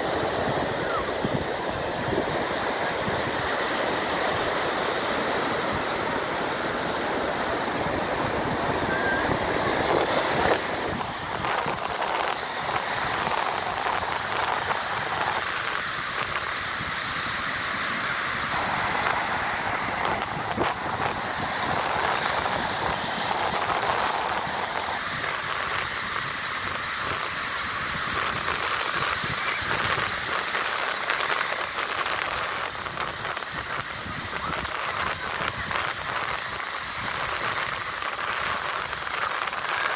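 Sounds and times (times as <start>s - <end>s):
waves washing onto beach: 0.0s - 39.9s.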